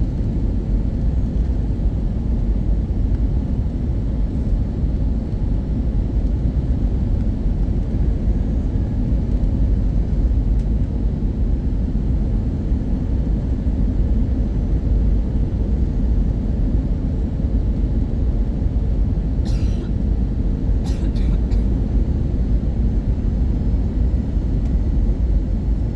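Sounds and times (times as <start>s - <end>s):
low rumble of engines and airflow: 0.0s - 25.9s.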